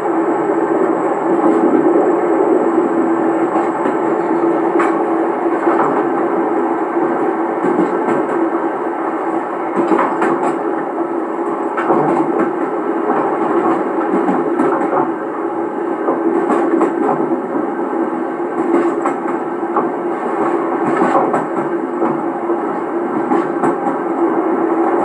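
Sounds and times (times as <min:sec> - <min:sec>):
train running drone: 0:00.0 - 0:25.0.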